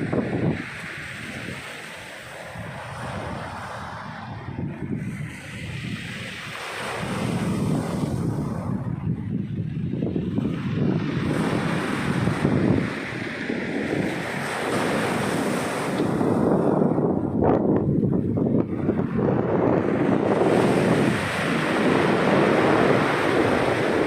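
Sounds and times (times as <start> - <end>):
surf breaking on shore: 0.0 - 24.0
wind buffeting microphone: 0.0 - 24.0.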